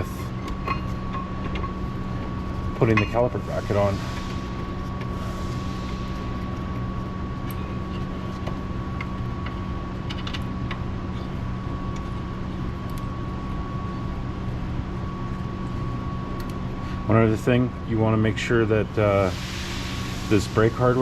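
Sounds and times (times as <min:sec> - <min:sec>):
shop machinery humming: 0:00.0 - 0:21.0.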